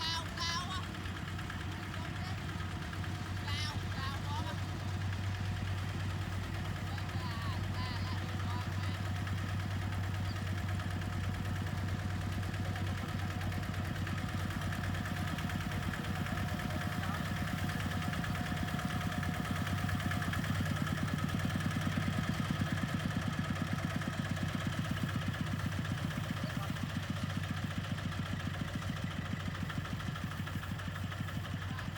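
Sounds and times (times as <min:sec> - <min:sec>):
diesel engine chugging: 0:00.0 - 0:31.9.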